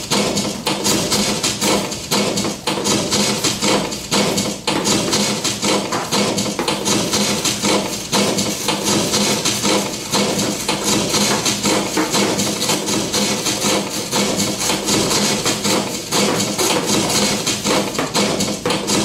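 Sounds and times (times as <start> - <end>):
book scratches taps and rustles: 3.1 - 18.8.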